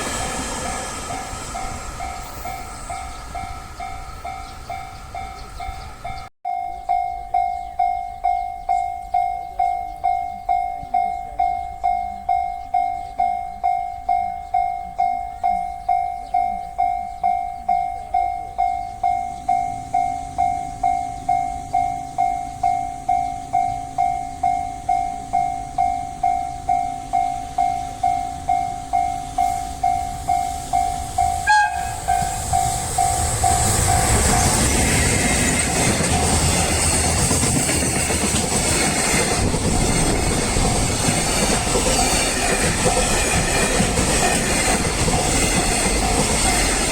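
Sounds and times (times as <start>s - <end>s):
approaching train: 0.0s - 46.9s
level crossing warning bell: 0.0s - 46.9s.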